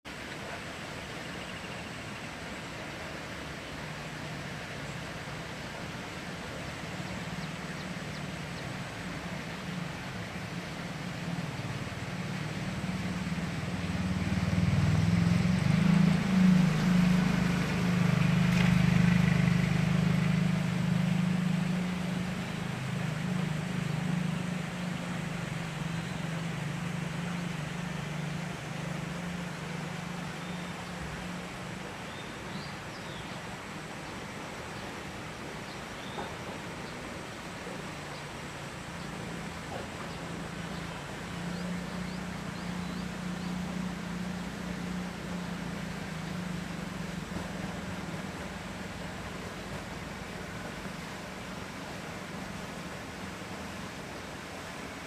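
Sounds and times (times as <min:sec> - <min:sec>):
low engine drone: 0:02.4 - 0:54.8.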